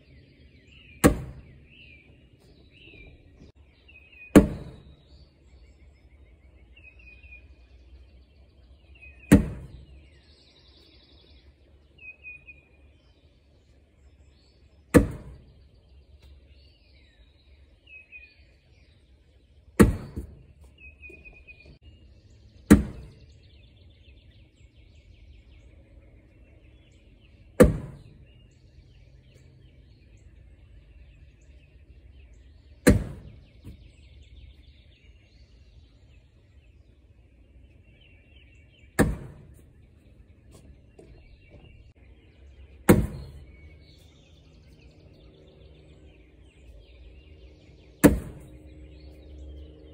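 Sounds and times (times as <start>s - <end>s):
faint birds chirping: 0.0s - 49.9s.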